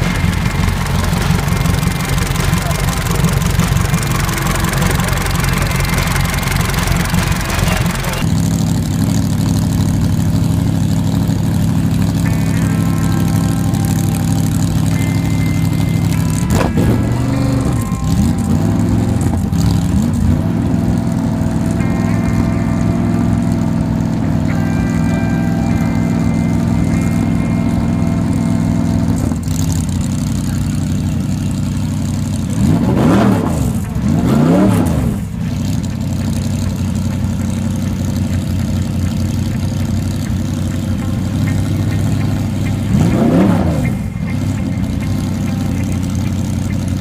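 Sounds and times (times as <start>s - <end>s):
car engine idling and revving: 0.0s - 47.0s.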